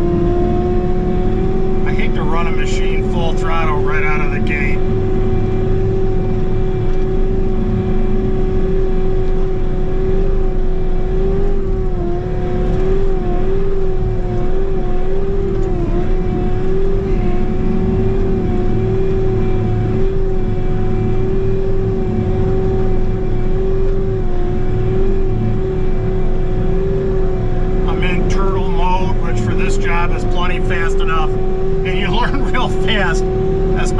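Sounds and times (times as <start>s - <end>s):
loader diesel engine whining: 0.0s - 33.9s.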